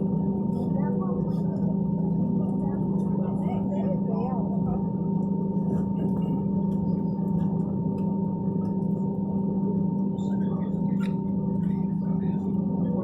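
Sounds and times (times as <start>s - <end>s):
airplane cabin hum: 0.0s - 13.0s.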